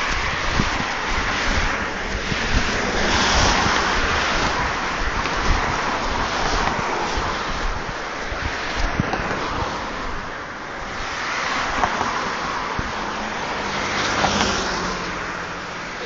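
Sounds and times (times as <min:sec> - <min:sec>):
wind on microphone: 0:00.0 - 0:15.0
car passing by: 0:00.0 - 0:16.0
passing traffic: 0:00.0 - 0:16.0.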